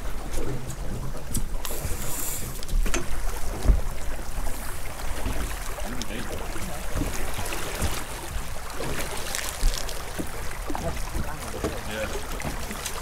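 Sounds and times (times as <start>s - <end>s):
boat engine rumble: 0.0s - 13.0s
water against hull: 0.0s - 13.0s
wind: 0.0s - 13.0s.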